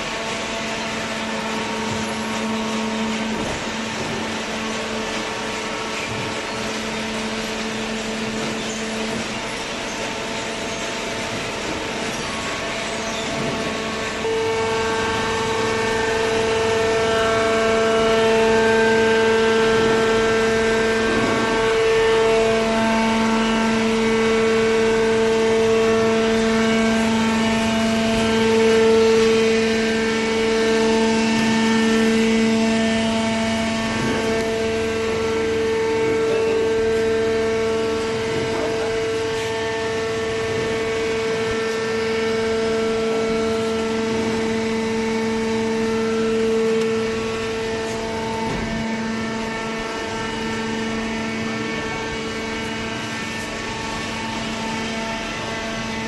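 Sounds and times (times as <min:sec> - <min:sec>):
hydraulic pump motor humming: 0:00.0 - 0:56.0.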